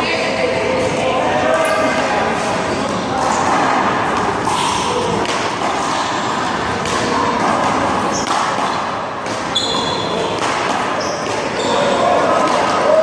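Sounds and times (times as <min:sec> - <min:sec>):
background noise: 0:00.0 - 0:13.0.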